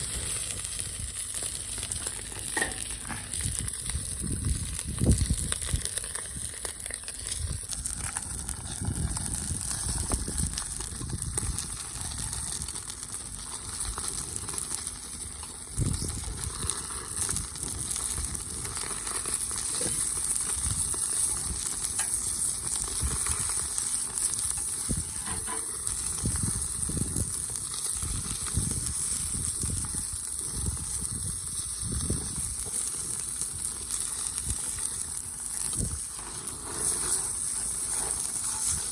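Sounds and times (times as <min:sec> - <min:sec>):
food frying sizzle: 0:00.0 - 0:38.9.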